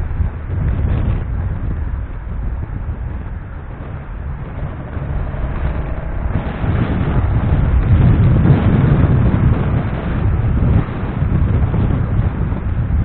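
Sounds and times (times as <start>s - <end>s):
road and traffic noise: 0.0s - 13.0s
wind rumbling over microphone: 0.0s - 13.0s.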